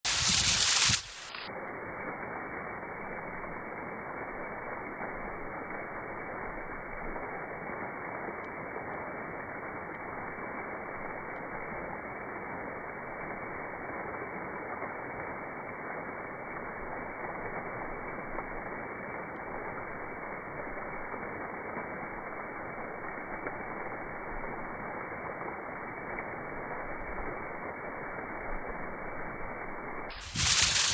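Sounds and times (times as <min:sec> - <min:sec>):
small waterfall rushing: 0:00.0 - 0:30.9.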